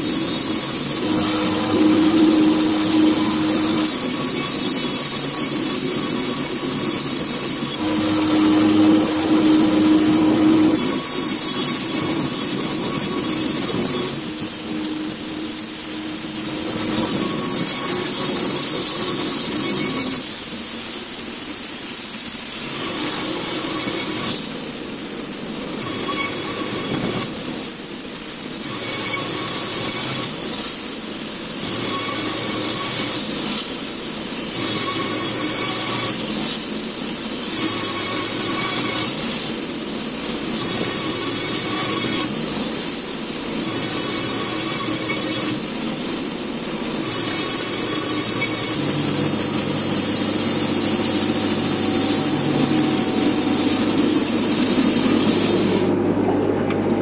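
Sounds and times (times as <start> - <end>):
band sawmill cutting boards: 0.0 - 20.8, 28.5 - 56.0.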